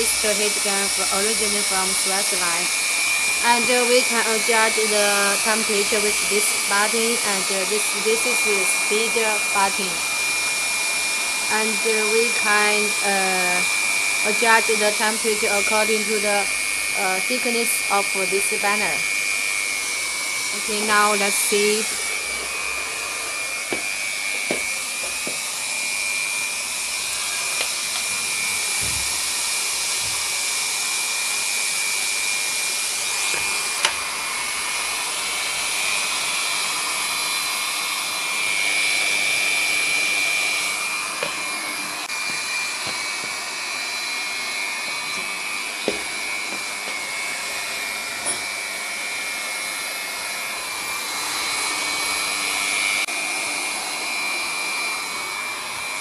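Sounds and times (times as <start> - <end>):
heat gun hissing with high whine: 0.0 - 56.0.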